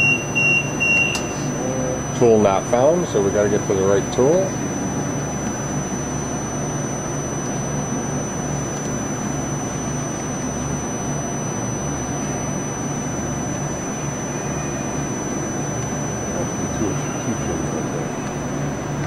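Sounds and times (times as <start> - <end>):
machine running with mechanical hum: 0.0 - 19.0.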